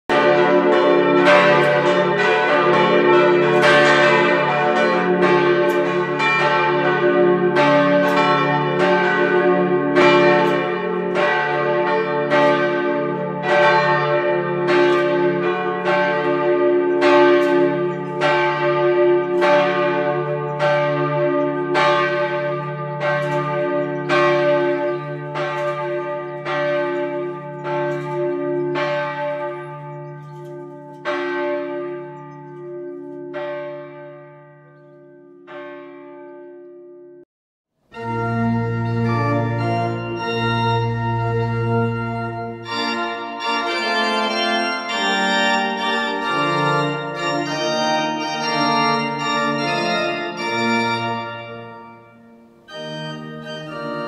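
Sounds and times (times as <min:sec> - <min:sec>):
church bells ringing: 0:00.1 - 0:37.2, 0:37.9 - 0:54.0.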